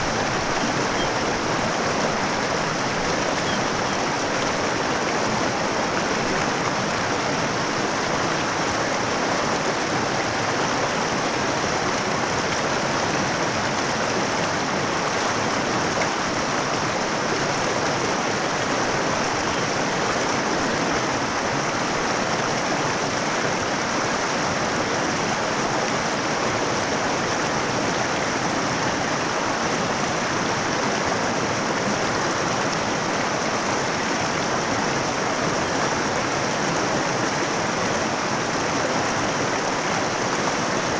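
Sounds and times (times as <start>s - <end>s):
river flowing over rocks: 0.0s - 40.9s.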